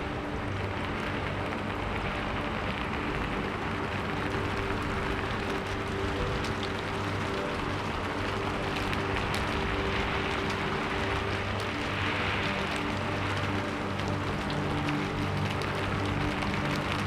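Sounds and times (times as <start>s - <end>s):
soft music of held tones: 0.0s - 17.0s
steady rain: 0.0s - 17.0s.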